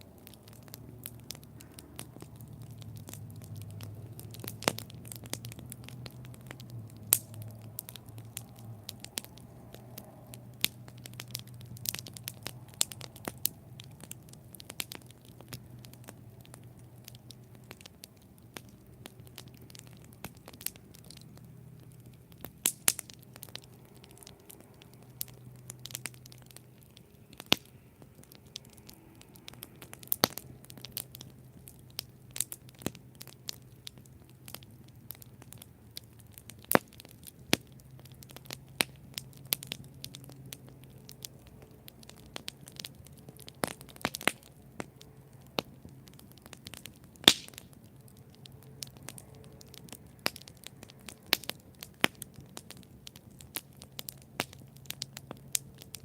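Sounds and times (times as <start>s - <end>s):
campfire crackles and pops: 0.0s - 56.0s
low rumble of flame: 0.0s - 56.0s.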